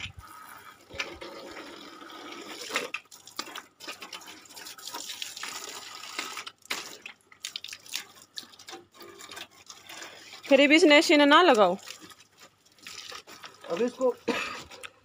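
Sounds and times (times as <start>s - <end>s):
hose water splashing on concrete: 0.0s - 14.8s.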